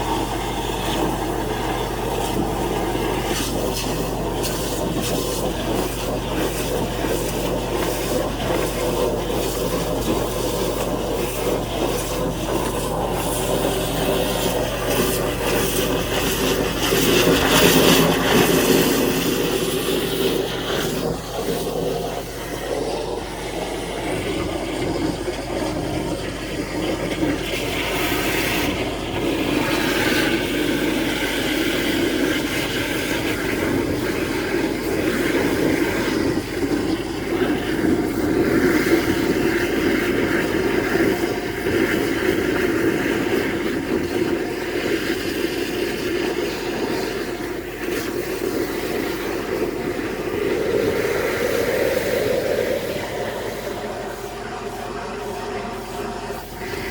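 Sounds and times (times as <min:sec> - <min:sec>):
pump engine droning: 0:00.0 - 0:56.9
water hissing under pressure: 0:00.0 - 0:56.9.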